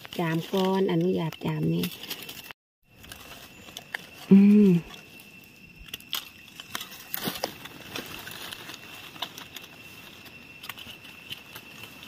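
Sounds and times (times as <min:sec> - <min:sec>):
rustling over dry leaves: 0:00.0 - 0:12.0.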